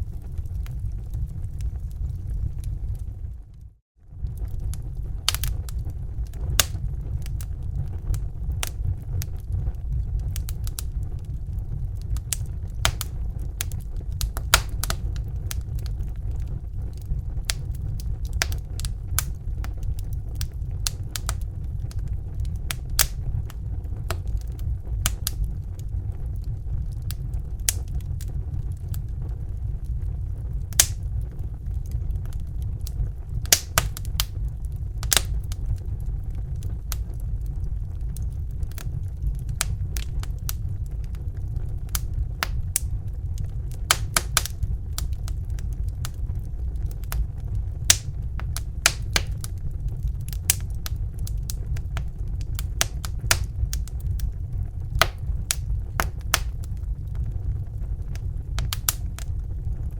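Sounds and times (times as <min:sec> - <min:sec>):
fire crackling: 0:00.0 - 0:59.9
low rumble: 0:00.0 - 0:59.9.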